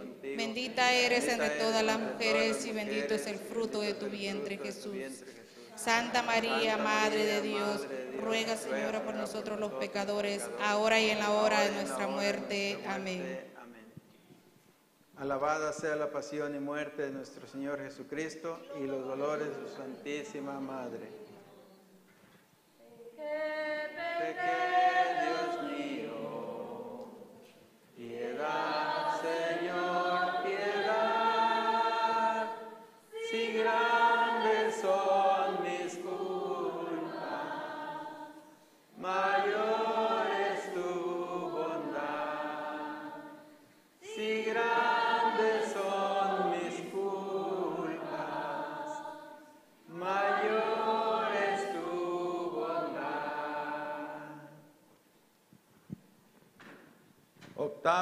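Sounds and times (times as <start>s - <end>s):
congregation singing a hymn: 0.0s - 13.6s, 15.5s - 21.8s, 22.8s - 54.9s.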